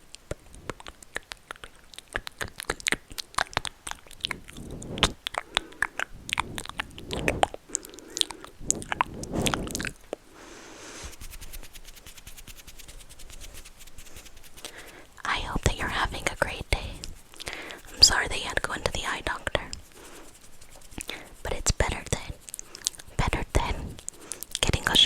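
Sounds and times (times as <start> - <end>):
soft rustling: 2.2 - 25.0
steady soft hiss: 2.2 - 25.0.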